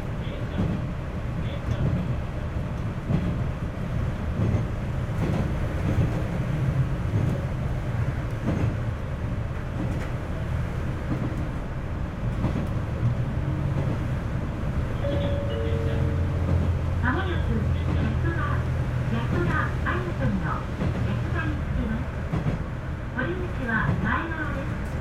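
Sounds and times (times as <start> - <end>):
diesel railcar engine drone: 0.0 - 25.0.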